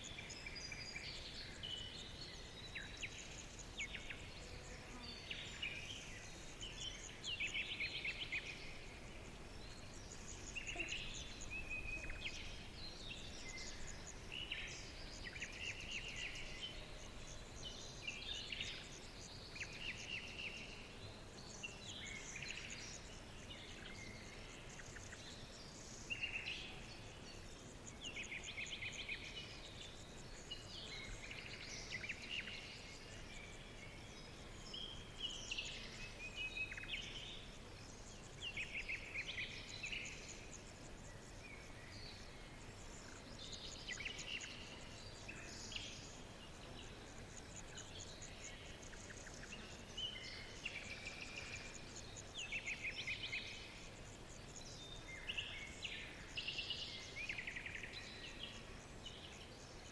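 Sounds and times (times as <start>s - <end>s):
soft background hiss: 0.0s - 59.9s.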